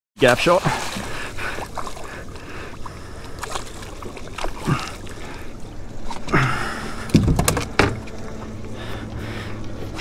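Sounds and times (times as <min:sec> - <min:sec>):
water splashing: 0:00.2 - 0:10.0.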